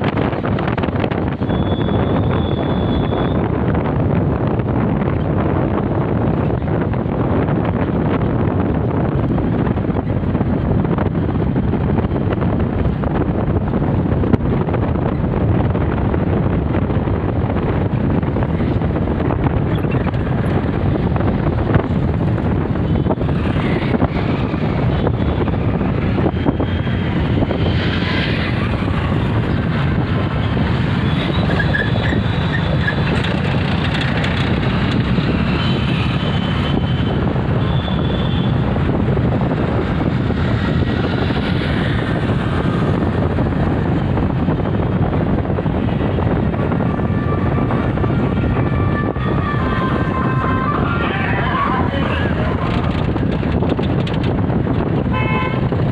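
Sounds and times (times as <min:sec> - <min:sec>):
wind rumble on microphone: 0:00.0 - 0:55.9.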